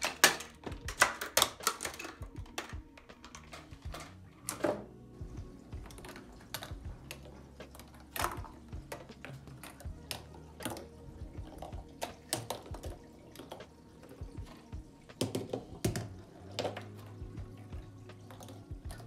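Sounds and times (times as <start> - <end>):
balls clicking along plastic track: 0.0 - 4.9, 5.7 - 19.0.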